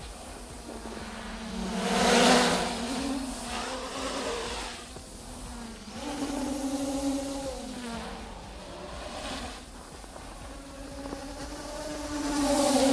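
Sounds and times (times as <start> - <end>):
quadcopter propellers whining: 0.0 - 12.9.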